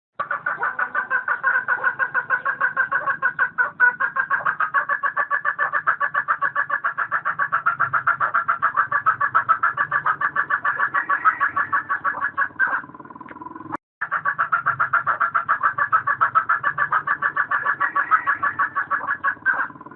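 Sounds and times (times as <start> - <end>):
hen clucking rapidly: 0.2 - 19.9.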